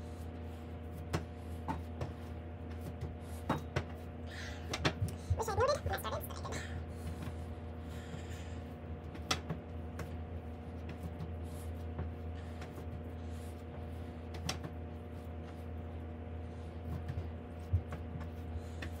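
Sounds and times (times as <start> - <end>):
dough being kneaded: 0.0 - 19.0
steady low hum: 0.0 - 19.0.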